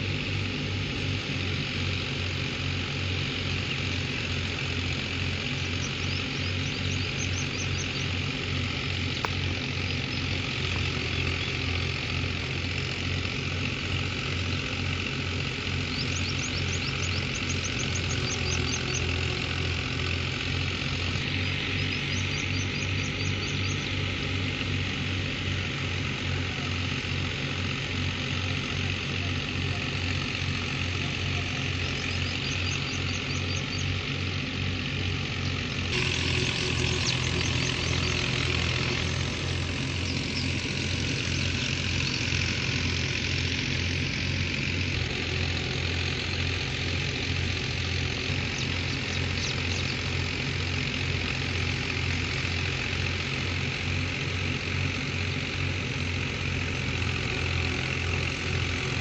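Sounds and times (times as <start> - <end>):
threshing machine hissing: 0.0 - 59.0
tractor diesel engine running: 0.0 - 59.0.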